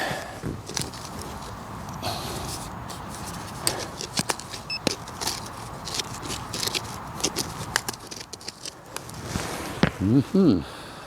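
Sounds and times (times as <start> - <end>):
tool digging in soil: 0.0 - 9.9.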